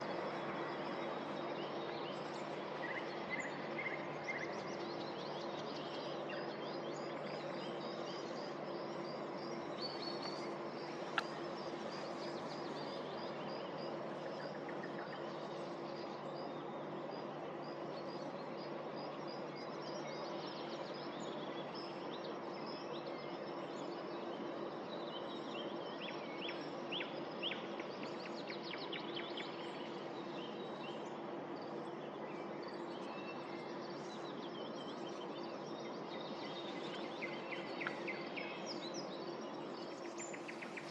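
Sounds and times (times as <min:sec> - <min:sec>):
low hum of city noise: 0:00.0 - 0:40.9
songbirds singing: 0:00.0 - 0:40.9.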